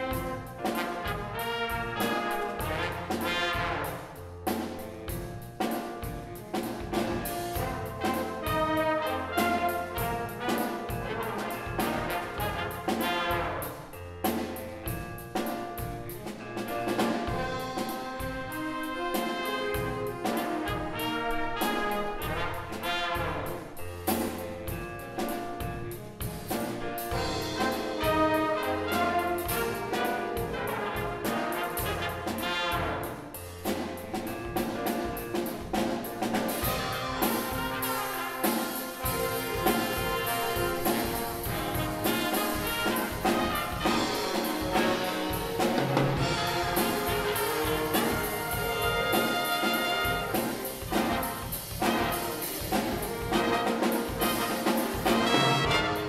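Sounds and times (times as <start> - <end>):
brass section playing: 0.0 - 4.8, 6.1 - 14.1, 15.4 - 24.4, 25.1 - 33.7, 34.5 - 56.0
bass: 0.0 - 56.0
drum kit: 0.0 - 56.0.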